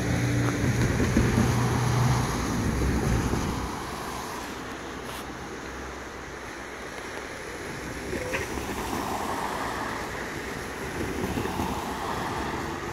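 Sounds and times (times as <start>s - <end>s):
car tyre and road noise: 0.0s - 12.9s.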